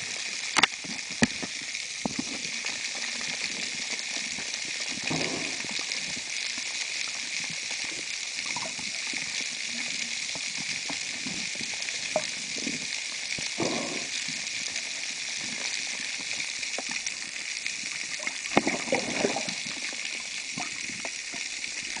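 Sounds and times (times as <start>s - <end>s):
underwater crackling hiss: 0.0s - 22.0s.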